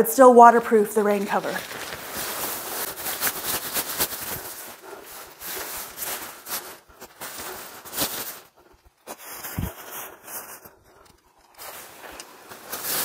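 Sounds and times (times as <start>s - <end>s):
tent fabric rustling and crinkling: 0.7s - 13.0s.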